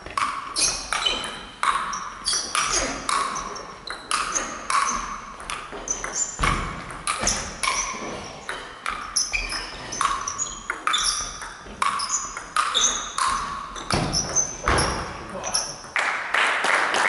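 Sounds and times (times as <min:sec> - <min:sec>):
table tennis ball hits: 0:00.0 - 0:16.0.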